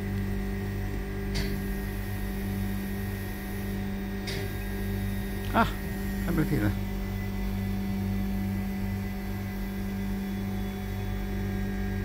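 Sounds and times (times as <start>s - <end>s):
test chamber humming: 0.0s - 12.0s.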